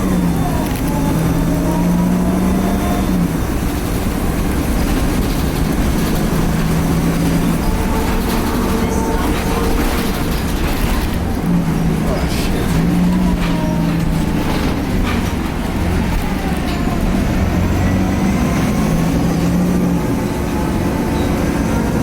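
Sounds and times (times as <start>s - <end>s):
bus diesel engine hum: 0.0s - 22.0s.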